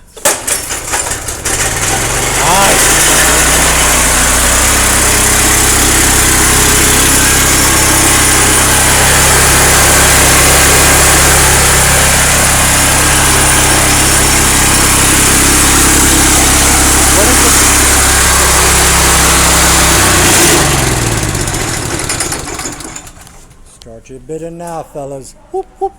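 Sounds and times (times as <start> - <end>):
concrete saw engine running: 0.0 - 23.8.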